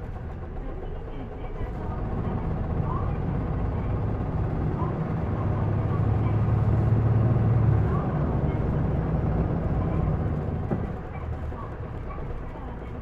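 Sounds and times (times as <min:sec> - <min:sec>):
bus diesel engine accelerating: 0:00.0 - 0:13.0.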